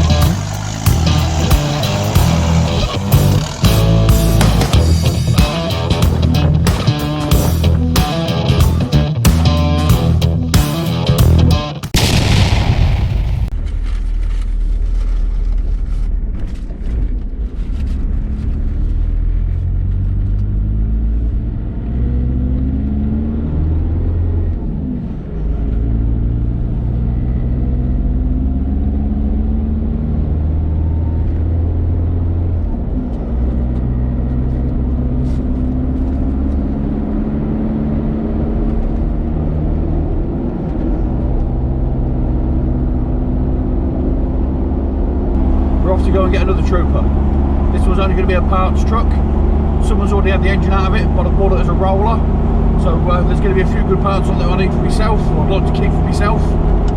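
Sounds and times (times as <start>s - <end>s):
car engine accelerating through gears: 0.0s - 11.7s, 13.8s - 56.9s
low rumble of road noise: 0.0s - 56.9s.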